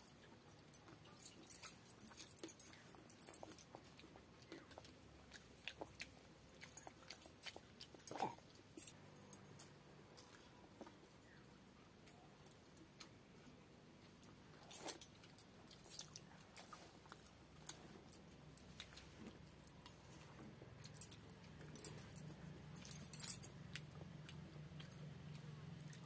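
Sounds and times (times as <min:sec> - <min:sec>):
faint low hum: 0:00.0 - 0:26.0
chewing and lip smacks: 0:00.2 - 0:08.9, 0:12.0 - 0:26.0.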